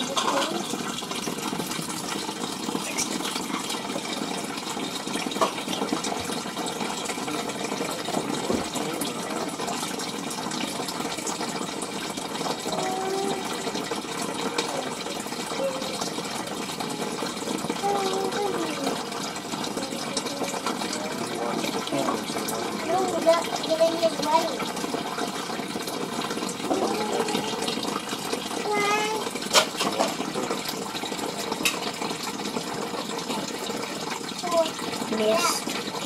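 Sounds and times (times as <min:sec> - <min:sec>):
aquarium filter water splashing: 0:00.0 - 0:36.0.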